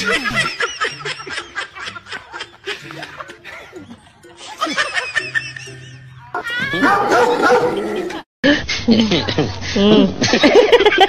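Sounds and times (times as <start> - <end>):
man laughing: 0.0 - 11.0.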